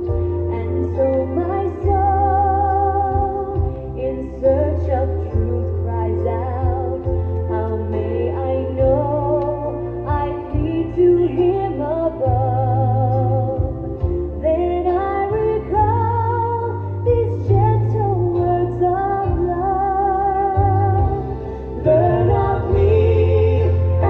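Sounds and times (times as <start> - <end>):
low steady bass notes: 0.0 - 24.0
recorded song with wavering melody: 0.0 - 24.0.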